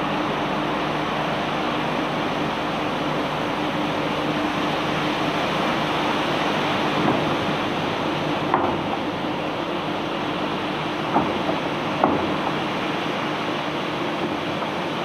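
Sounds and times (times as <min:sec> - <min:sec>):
machinery engine humming: 0:00.0 - 0:15.0.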